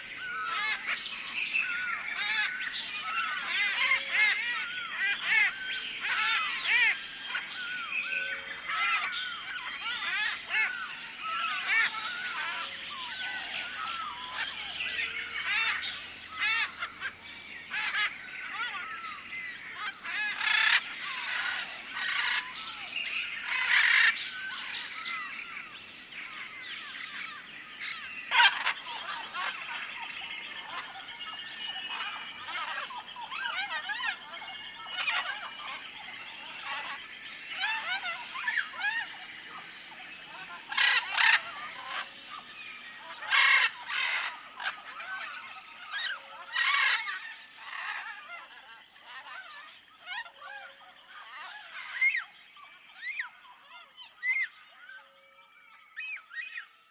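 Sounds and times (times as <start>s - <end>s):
flock of birds chirping: 0.0s - 56.9s.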